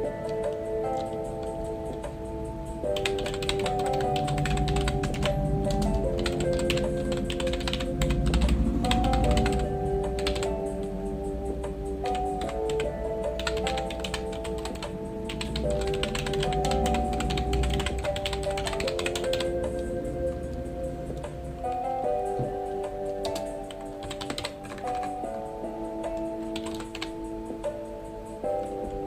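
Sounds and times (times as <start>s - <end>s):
computer keyboard typing: 0.0s - 2.2s, 2.8s - 10.9s, 12.0s - 25.4s, 26.1s - 27.2s
background music of held chords: 0.0s - 29.0s.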